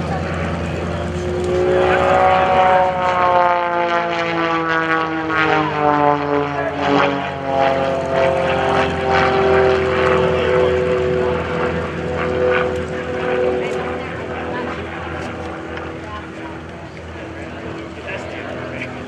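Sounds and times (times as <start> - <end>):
propeller plane engine: 0.0 - 19.0.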